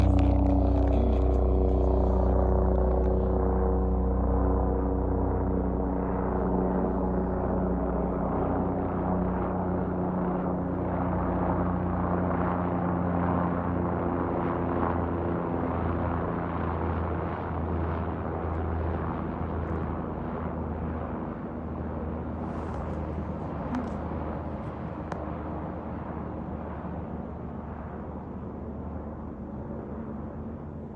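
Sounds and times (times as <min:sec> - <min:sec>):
helicopter rotor and engine drone: 0:00.0 - 0:30.9.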